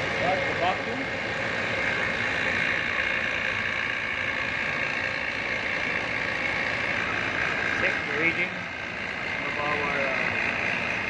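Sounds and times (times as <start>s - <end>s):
loud machinery noise: 0.0s - 11.0s.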